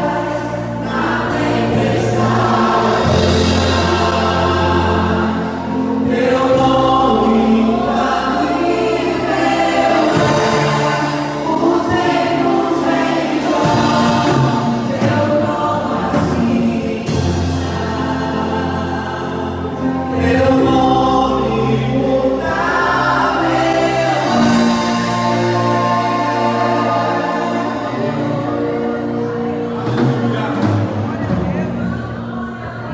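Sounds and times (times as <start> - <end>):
choir singing gospel song: 0.0 - 32.9
held bass notes: 0.0 - 32.9.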